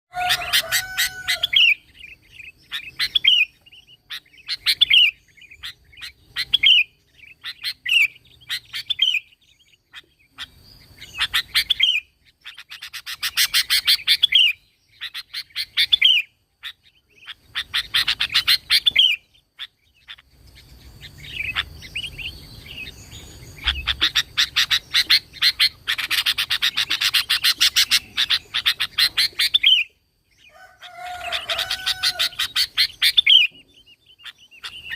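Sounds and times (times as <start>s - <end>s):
bulbul singing chattering phrases: 0.1s - 34.9s.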